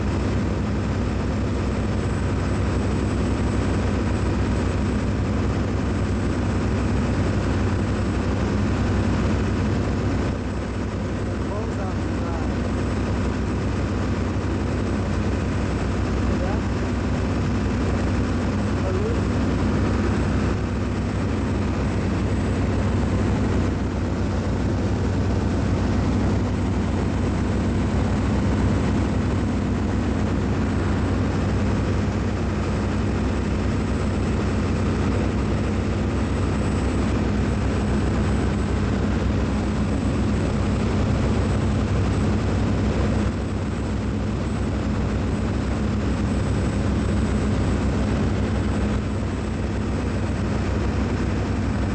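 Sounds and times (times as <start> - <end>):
low mechanical drone: 0.0 - 51.9.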